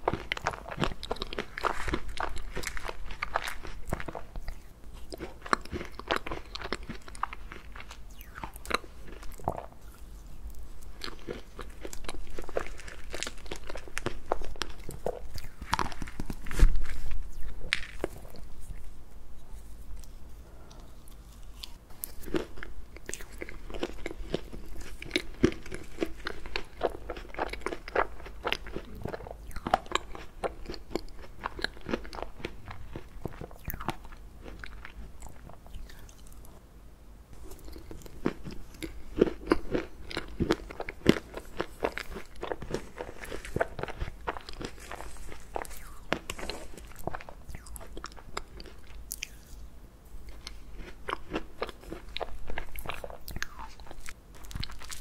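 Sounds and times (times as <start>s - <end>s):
person chewing and biting: 0.0s - 36.5s, 37.4s - 55.0s.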